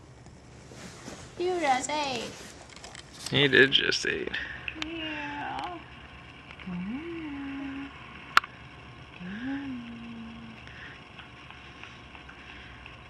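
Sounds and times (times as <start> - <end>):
soft rising hums: 0.0 - 13.0.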